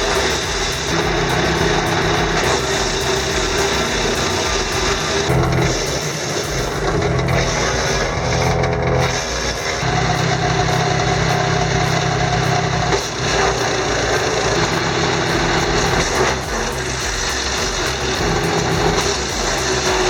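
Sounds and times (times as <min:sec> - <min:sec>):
wood chipper engine running: 0:00.0 - 0:20.0.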